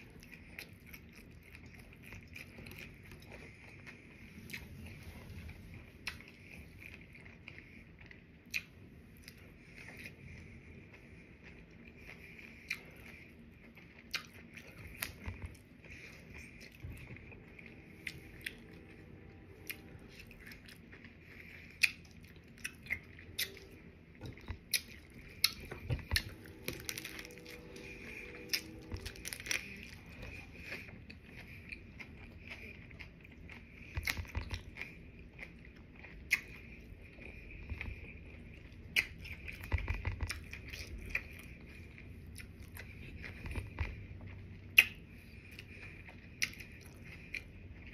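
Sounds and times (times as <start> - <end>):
chewing crunchy taco shell: 0.0 - 47.9.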